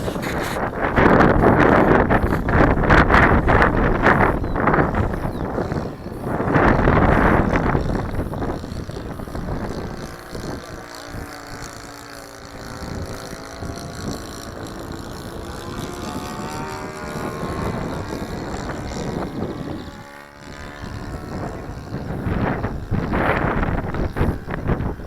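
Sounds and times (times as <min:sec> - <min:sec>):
propeller airplane engine drone: 0:00.0 - 0:25.0
wind buffeting microphone: 0:00.0 - 0:25.0.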